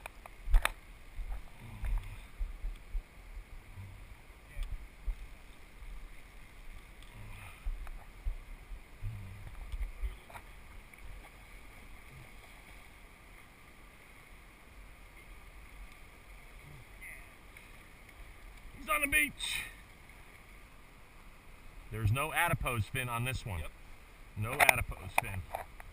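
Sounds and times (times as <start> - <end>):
river water rushing: 0.0 - 25.9.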